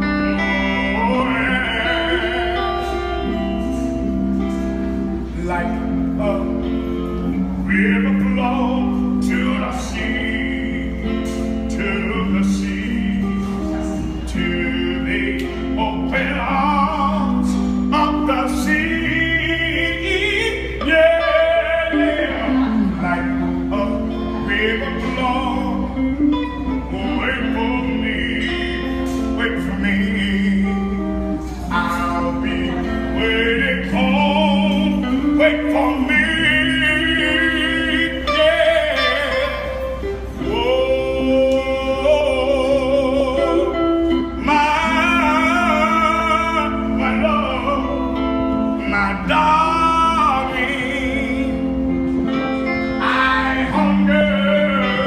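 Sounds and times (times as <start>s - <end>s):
instrumental backing: 0.0s - 55.0s
man singing slow song: 0.0s - 55.0s.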